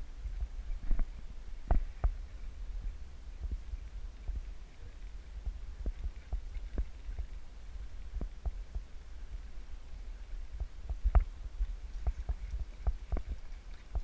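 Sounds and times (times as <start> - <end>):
boat rumble on choppy water: 0.0 - 14.0.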